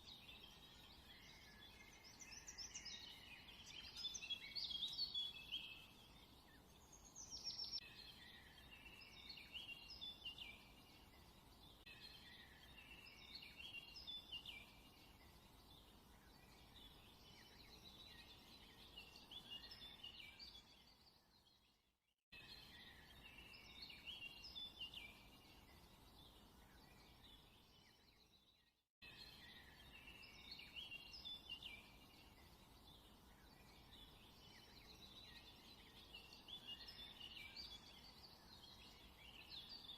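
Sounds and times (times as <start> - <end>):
faint songbirds chirping: 0.0 - 39.9.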